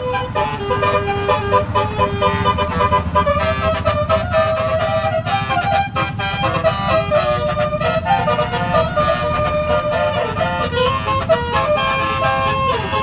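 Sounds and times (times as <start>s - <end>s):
bus engine running: 0.0s - 13.0s
multi-note air horn melody: 0.0s - 13.0s.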